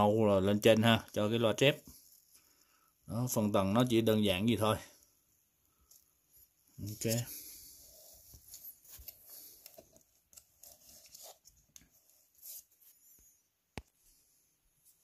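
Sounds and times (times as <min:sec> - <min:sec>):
rustling of stuffing and wiring: 0:00.1 - 0:15.0.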